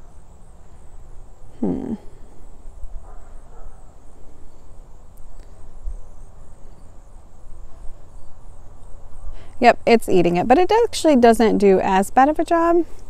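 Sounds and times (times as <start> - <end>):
insects chirring: 0.0 - 10.8.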